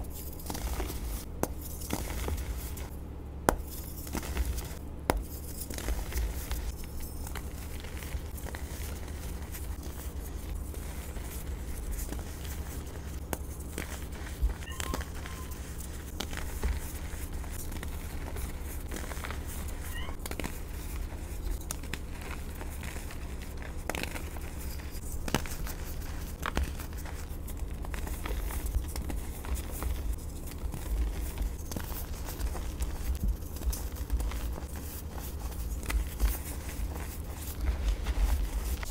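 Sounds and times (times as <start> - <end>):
chalk crunching by hand: 0.0 - 38.9
steady low hum: 0.0 - 38.9.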